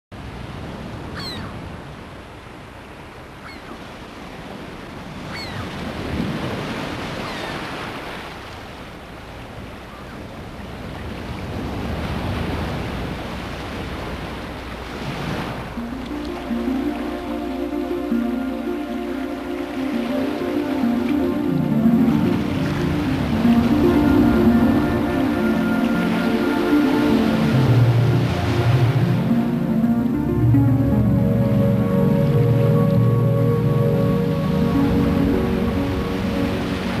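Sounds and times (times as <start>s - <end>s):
wind: 0.1s - 37.0s
waves washing on shore: 0.2s - 37.0s.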